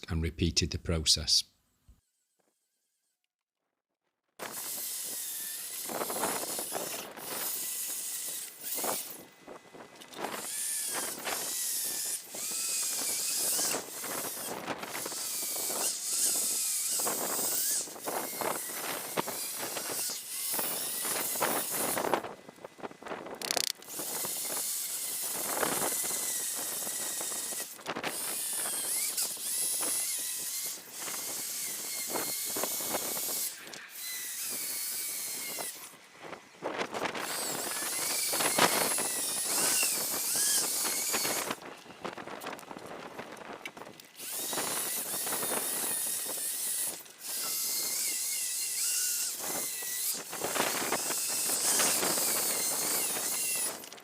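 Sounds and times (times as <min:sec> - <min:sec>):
drill sanding plastic lens: 0:04.4 - 0:22.3, 0:23.2 - 0:36.0, 0:36.8 - 0:42.7, 0:43.6 - 0:54.0.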